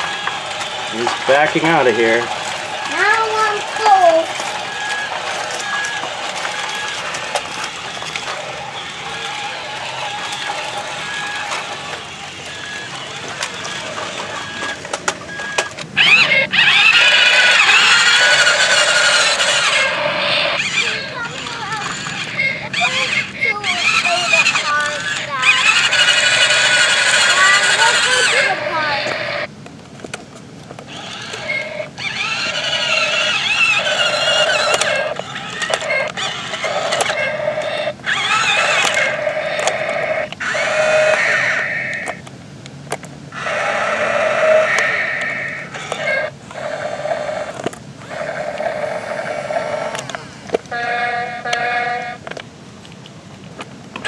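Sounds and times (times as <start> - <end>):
toy excavator motors whining: 0.0 - 42.3, 42.9 - 53.0, 53.6 - 54.0.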